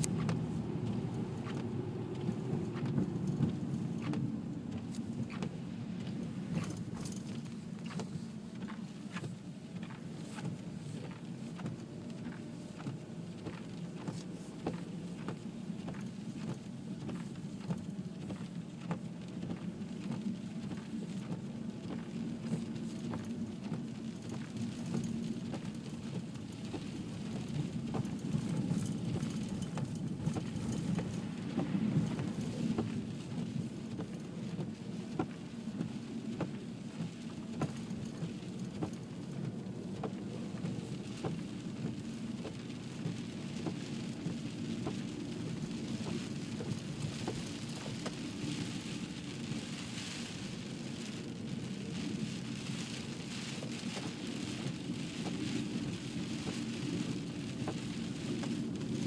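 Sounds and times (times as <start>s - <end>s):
engine and tyres rumbling: 0.0s - 59.0s.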